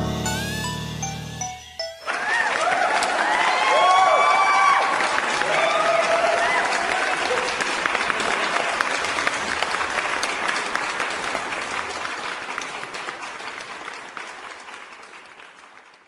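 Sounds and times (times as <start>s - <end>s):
crowd applause: 2.0s - 16.0s.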